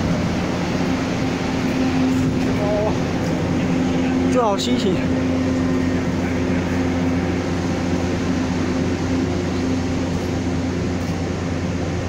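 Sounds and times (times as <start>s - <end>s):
low machinery hum: 0.0s - 12.0s
train coaches rolling past: 0.0s - 12.0s.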